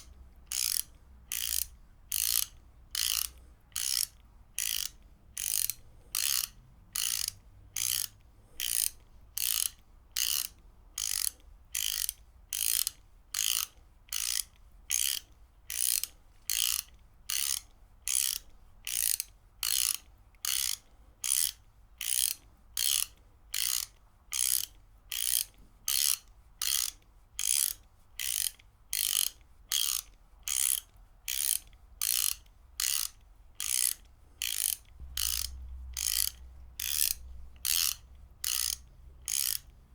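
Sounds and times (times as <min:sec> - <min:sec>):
ratchet wrench clicking: 0:00.0 - 0:39.8.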